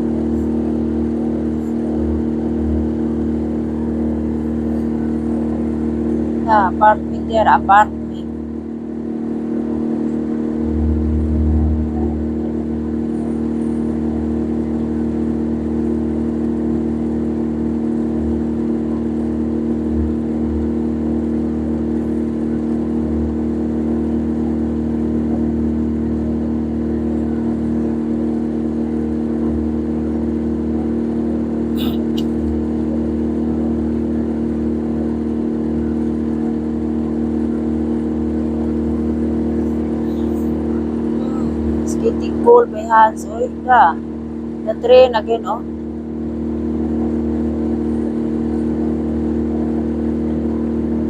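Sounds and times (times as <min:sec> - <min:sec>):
engine droning: 0:00.0 - 0:51.0.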